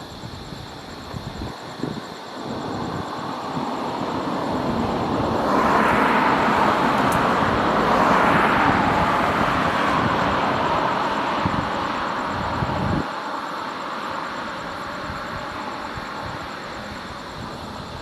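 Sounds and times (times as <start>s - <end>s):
car passing by: 2.7s - 17.6s.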